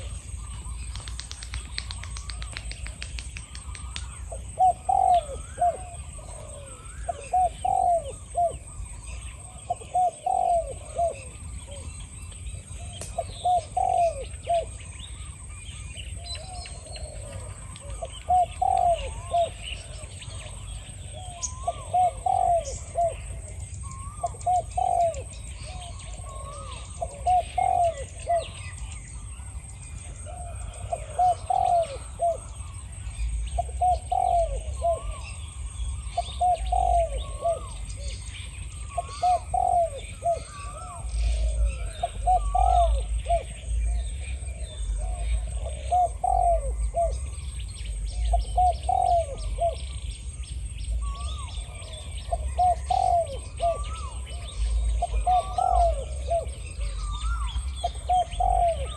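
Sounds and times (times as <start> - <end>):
doves cooing: 0.0 - 58.9
small birds chirping: 0.0 - 58.9.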